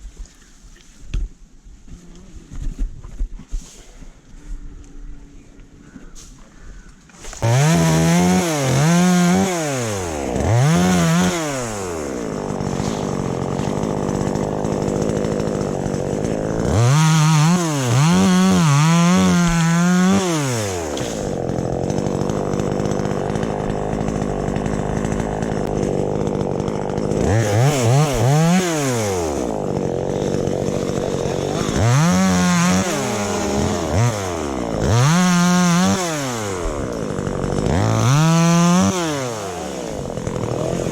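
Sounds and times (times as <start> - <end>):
chainsaw revving: 7.3 - 40.9.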